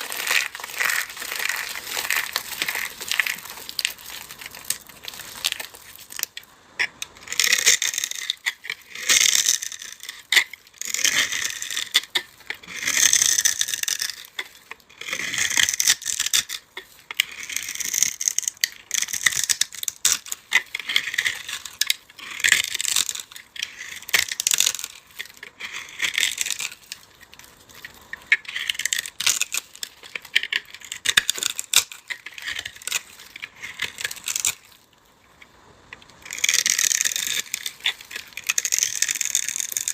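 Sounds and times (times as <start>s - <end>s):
dry block crushed by hand: 0.0s - 34.7s.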